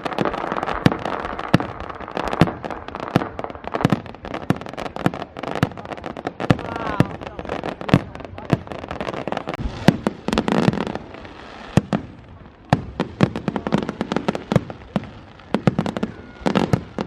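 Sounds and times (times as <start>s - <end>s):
fireworks bangs and cracks: 0.0s - 17.0s
fireworks crackling burst: 0.0s - 17.0s.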